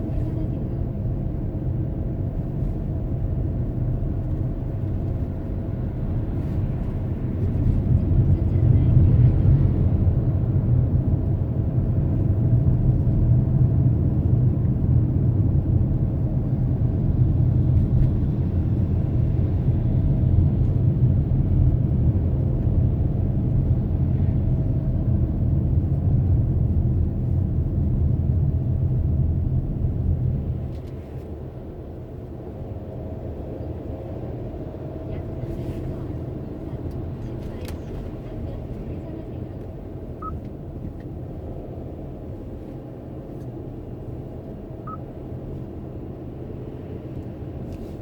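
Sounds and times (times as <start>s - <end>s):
car engine and tyres rumbling: 0.0s - 48.0s.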